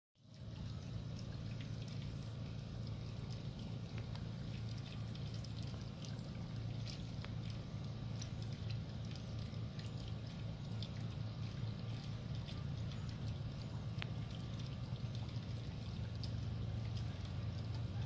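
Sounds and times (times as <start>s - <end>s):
steady low hum: 0.2s - 18.0s
water trickling into pond: 0.2s - 18.0s.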